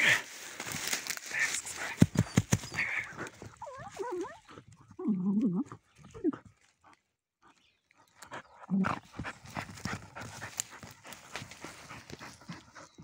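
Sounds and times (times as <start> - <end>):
paws digging in dirt: 0.0 - 5.0, 5.7 - 13.0.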